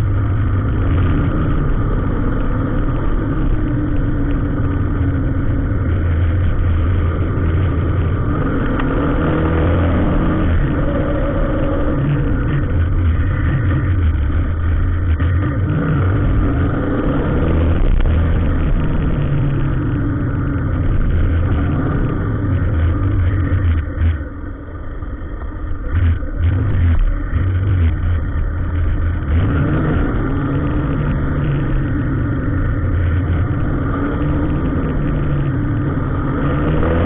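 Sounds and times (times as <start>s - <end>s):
vehicle engines droning: 0.0s - 37.0s.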